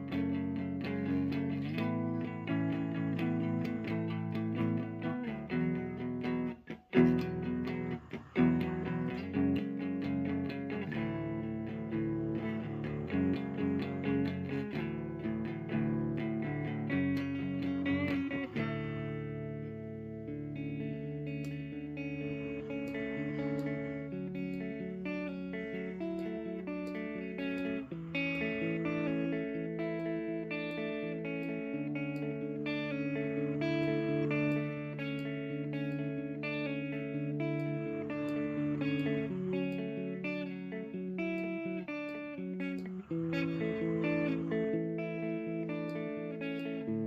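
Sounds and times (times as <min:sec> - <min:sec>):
electric guitar chords: 0:00.0 - 0:47.0.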